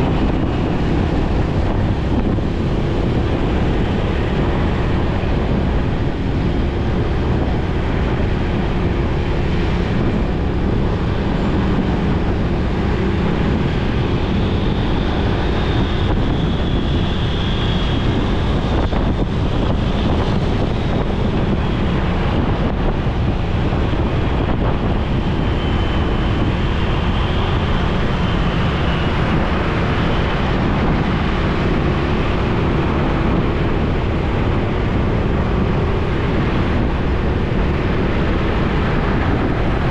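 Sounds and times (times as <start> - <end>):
traffic: 0.0 - 39.9
wind on microphone: 0.0 - 39.9.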